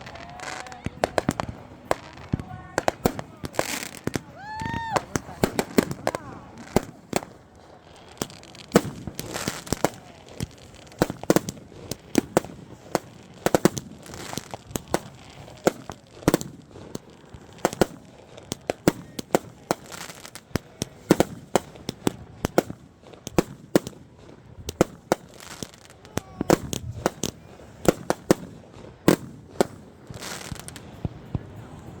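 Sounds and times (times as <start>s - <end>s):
fireworks bangs and pops: 0.0s - 32.0s
fireworks crackling: 0.0s - 32.0s.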